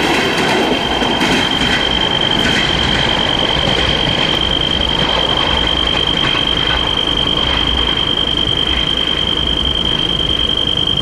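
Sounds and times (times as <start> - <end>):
railroad crossing signal tone: 0.0 - 11.0
steady background noise: 0.0 - 11.0.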